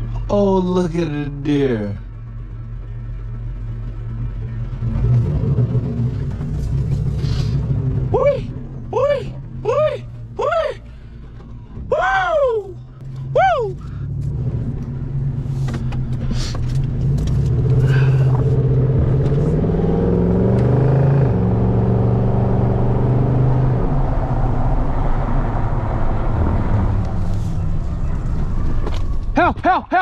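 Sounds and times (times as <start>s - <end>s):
truck engine: 0.0s - 29.4s
road noise: 0.0s - 30.0s.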